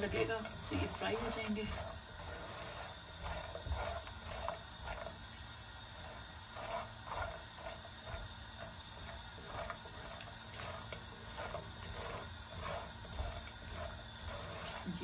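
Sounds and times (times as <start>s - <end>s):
nuts frying crackling and popping: 0.0s - 15.0s.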